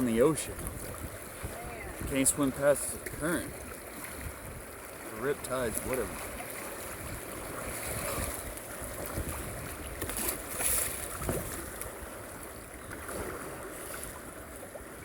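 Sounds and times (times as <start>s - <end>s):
floodwater rushing and splashing: 0.0s - 15.0s.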